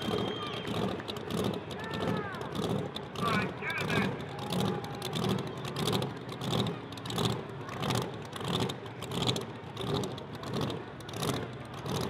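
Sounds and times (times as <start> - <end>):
car engine with lumpy pulse: 0.0 - 12.0.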